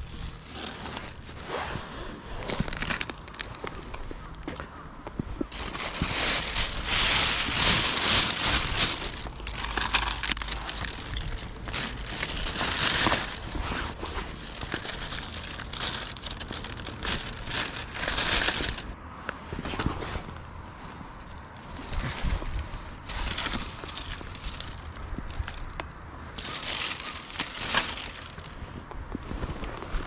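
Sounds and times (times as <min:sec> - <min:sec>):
plastic bag rustling: 0:00.0 - 0:03.6, 0:05.5 - 0:19.0, 0:21.2 - 0:30.0.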